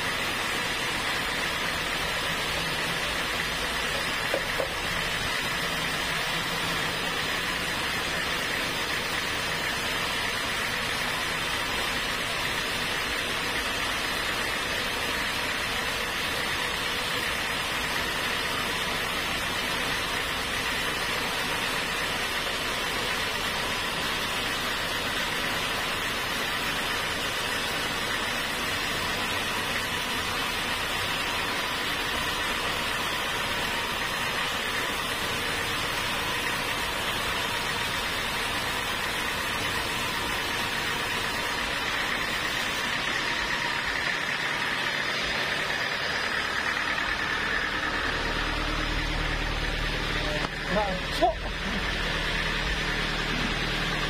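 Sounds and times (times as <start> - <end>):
band sawmill sawing log: 0.0 - 54.0.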